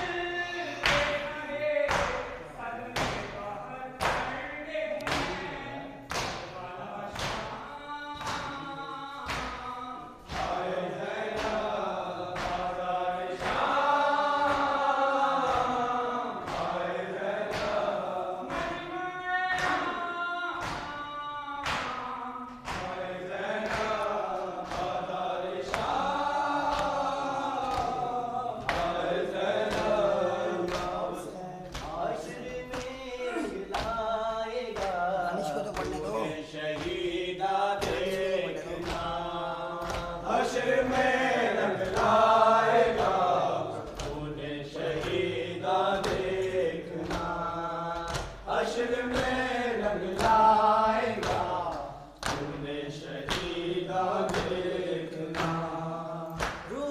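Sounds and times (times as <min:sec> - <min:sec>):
men chanting in chorus: 0:00.0 - 0:56.9.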